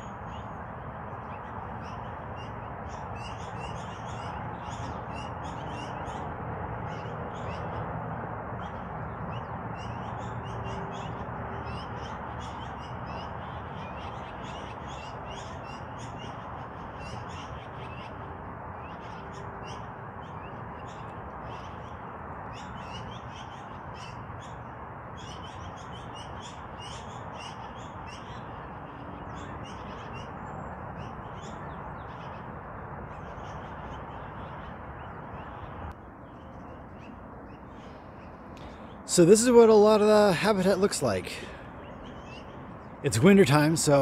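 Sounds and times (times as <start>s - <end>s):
magpies calling harshly: 1.2s - 7.9s, 8.6s - 35.9s, 36.7s - 44.0s.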